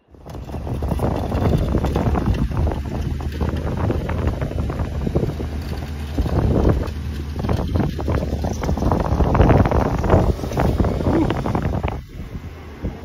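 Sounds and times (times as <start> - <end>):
car engine running: 0.0 - 13.0
wind buffeting microphone: 0.1 - 13.0.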